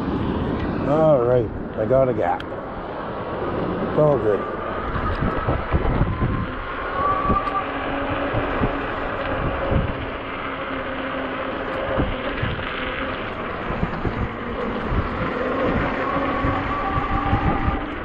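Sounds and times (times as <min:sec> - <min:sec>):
low wind rumble on microphone: 0:00.0 - 0:18.0
electric motor hum: 0:03.4 - 0:18.0.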